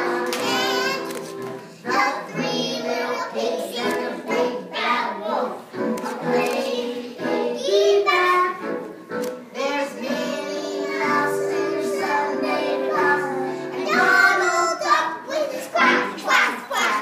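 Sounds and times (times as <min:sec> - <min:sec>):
children singing: 0:00.0 - 0:08.8, 0:09.5 - 0:17.0
backing music: 0:00.0 - 0:17.0.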